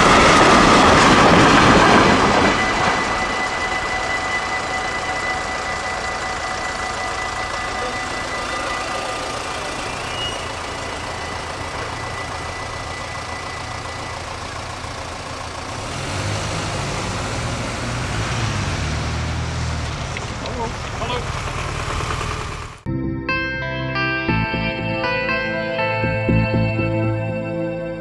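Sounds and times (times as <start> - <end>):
vehicle engines humming: 0.0 - 22.9.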